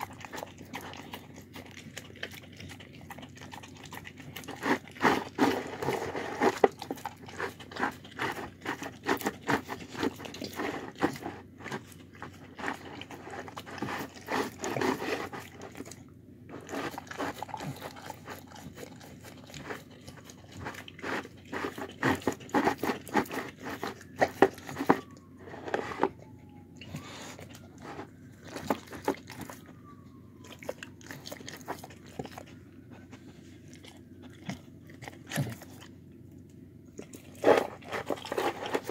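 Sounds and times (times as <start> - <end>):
dog crunching food: 0.0 - 38.9.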